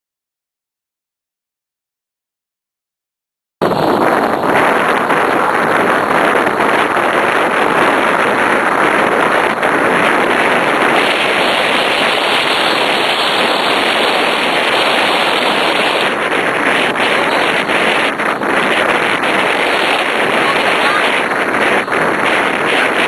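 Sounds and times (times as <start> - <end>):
wind buffeting microphone: 3.6 - 23.0.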